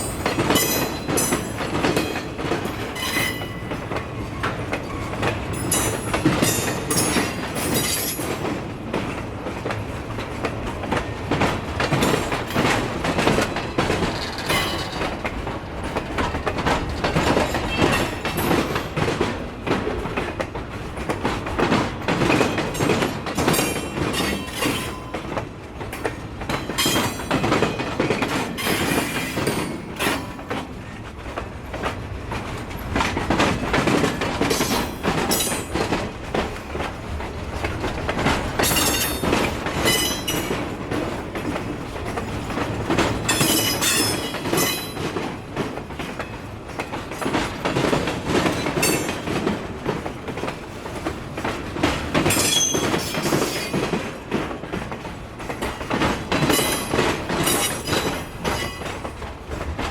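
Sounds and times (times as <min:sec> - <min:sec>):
train wheels clacking over rails: 0:00.0 - 0:59.9.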